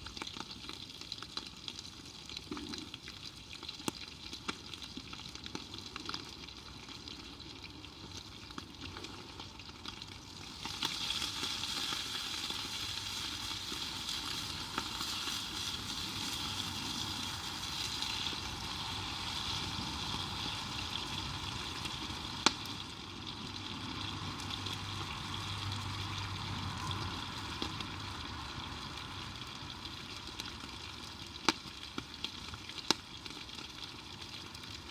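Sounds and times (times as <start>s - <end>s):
food sizzling in a pan: 0.0s - 34.9s.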